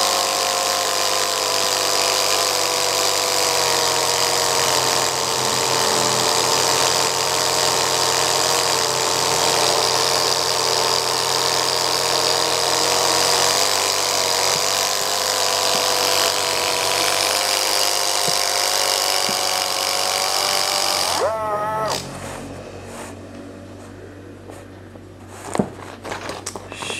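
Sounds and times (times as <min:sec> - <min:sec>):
plastic engine model whirring: 0:00.0 - 0:23.2, 0:25.3 - 0:26.9
small electric motor whining: 0:00.0 - 0:24.0.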